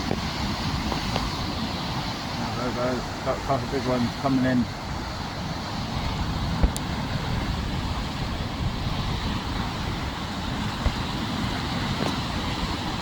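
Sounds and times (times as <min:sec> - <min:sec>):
waves breaking against rocks: 0:00.0 - 0:13.0
wind buffeting microphone: 0:00.0 - 0:13.0.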